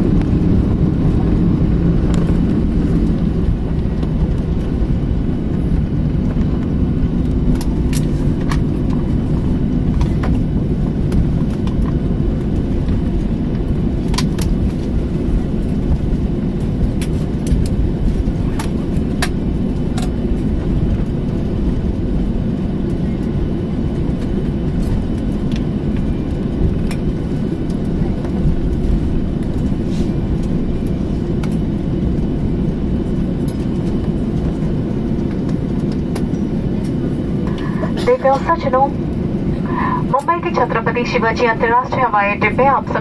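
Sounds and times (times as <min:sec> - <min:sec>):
airliner cabin rumble: 0:00.0 - 0:43.0.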